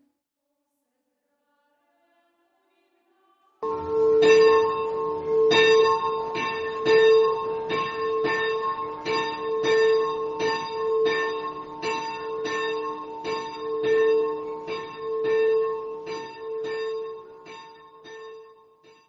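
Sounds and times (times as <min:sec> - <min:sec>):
bells ringing: 0:03.6 - 0:19.0.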